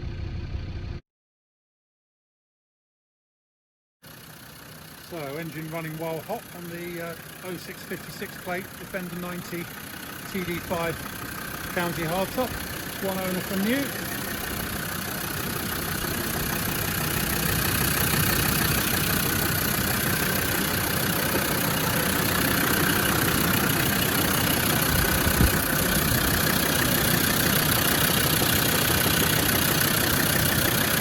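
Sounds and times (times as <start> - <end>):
diesel engine idling: 0.0 - 1.0, 4.0 - 31.0.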